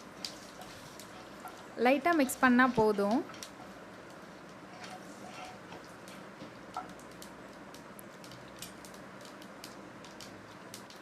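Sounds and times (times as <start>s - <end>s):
light steady hiss: 0.0s - 11.0s
spices crackling in oil: 0.0s - 11.0s.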